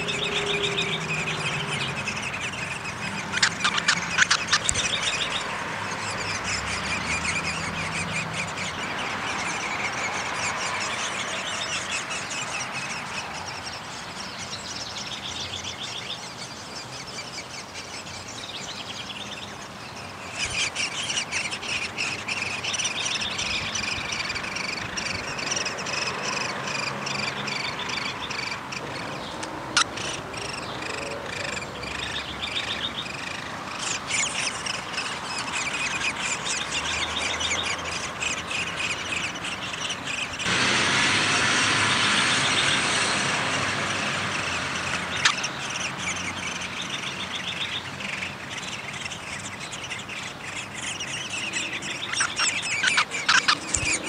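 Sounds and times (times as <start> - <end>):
woodpecker nestlings chattering: 0.0 - 54.0.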